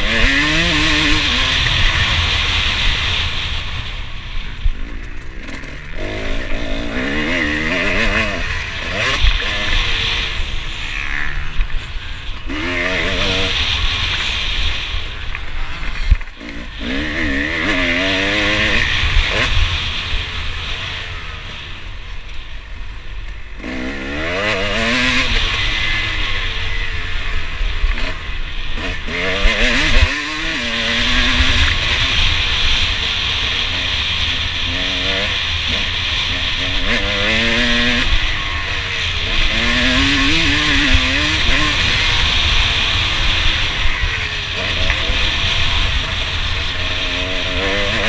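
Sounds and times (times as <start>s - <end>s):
motocross engine revving: 0.0s - 48.0s.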